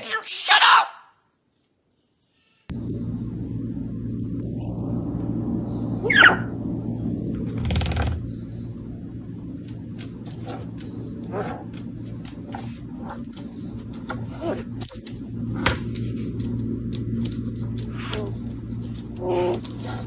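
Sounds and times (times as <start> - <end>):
steady low hum: 1.8 - 20.0.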